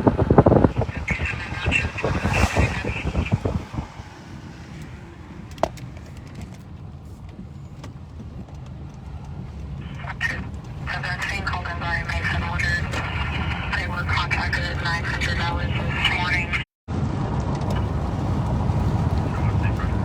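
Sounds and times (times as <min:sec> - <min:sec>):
road and engine hum inside car: 0:00.0 - 0:16.6, 0:17.3 - 0:20.0.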